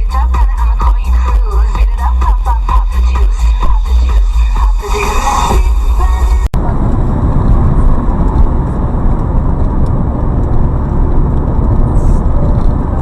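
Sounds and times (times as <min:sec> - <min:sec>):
car driving road noise: 0:00.0 - 0:13.0.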